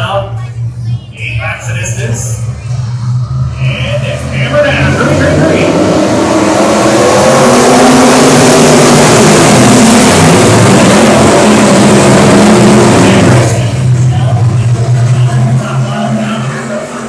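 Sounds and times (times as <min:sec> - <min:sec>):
race car engines at full throttle: 0:00.0 - 0:17.0.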